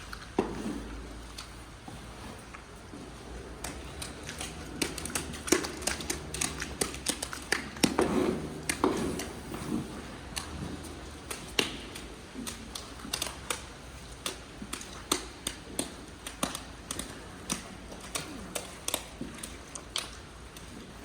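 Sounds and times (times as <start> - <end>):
sharp clicks and knocks: 3.5 - 20.8.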